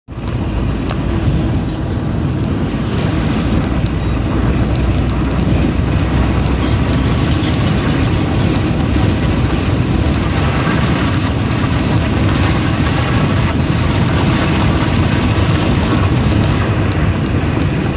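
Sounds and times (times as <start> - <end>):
car cabin road rumble: 0.1 - 17.9.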